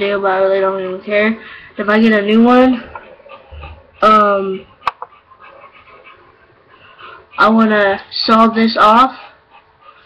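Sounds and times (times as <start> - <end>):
animal panting softly: 0.0 - 10.0.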